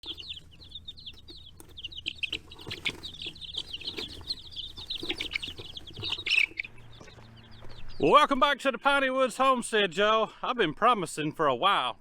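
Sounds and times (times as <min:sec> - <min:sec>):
chicks peeping: 0:00.0 - 0:11.3.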